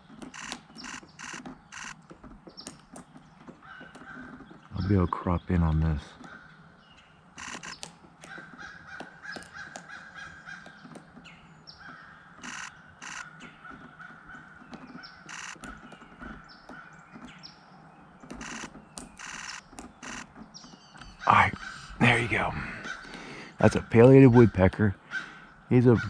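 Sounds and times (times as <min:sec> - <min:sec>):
harsh cawing calls: 0:00.0 - 0:17.6, 0:18.2 - 0:26.0
woodpecker tapping on bark: 0:00.0 - 0:26.0.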